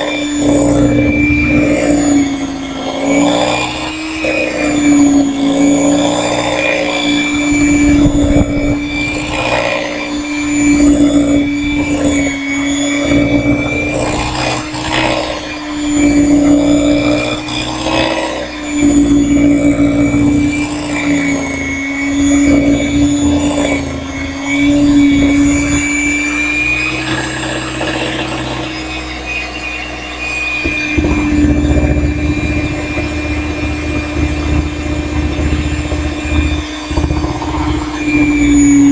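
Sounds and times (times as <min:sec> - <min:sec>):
electric mixer whining: 0:00.0 - 0:38.9.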